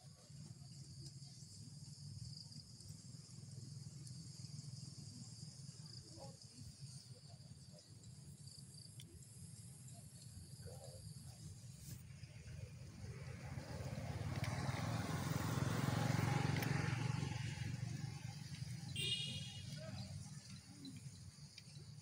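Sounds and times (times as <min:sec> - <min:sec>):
insects chirring: 0:00.2 - 0:22.0.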